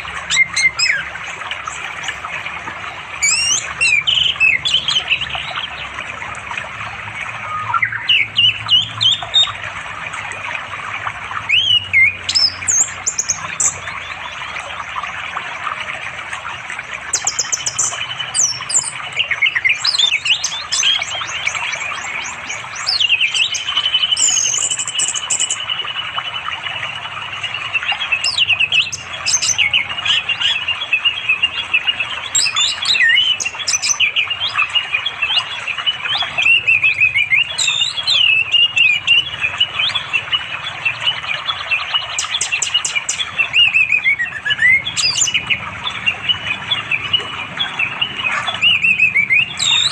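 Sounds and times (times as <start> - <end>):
thrush singing whistled phrases: 0.0 - 6.0, 7.0 - 9.6, 11.4 - 14.9, 16.8 - 49.9
stream flowing: 0.0 - 49.9.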